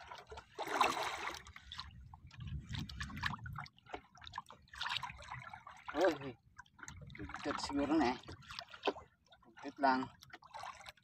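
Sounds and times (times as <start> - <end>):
water splashing against boat: 0.0 - 11.0.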